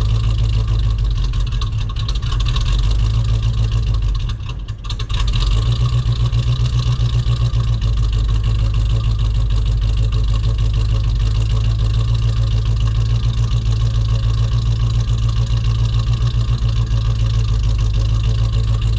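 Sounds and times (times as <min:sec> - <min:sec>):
engine idling rough: 0:00.0 - 0:18.9.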